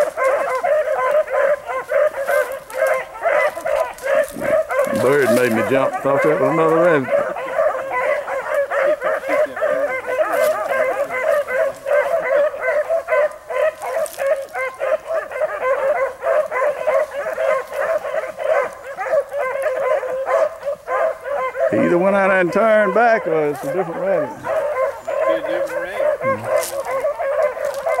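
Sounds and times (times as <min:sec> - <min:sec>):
dogs baying and yelping: 0:00.0 - 0:28.0.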